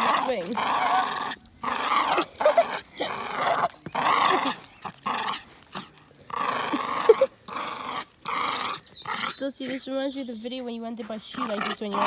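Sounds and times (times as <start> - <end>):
dog growling: 0.0 - 10.1, 11.1 - 12.0.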